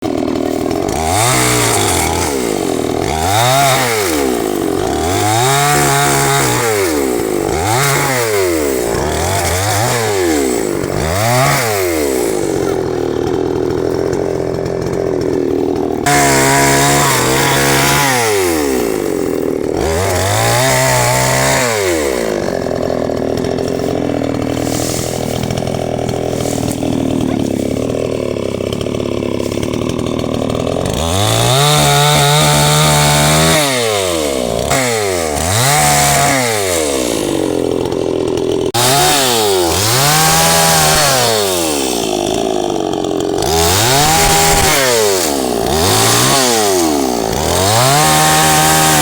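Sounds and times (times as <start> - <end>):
chainsaw engine revving: 0.0 - 49.0.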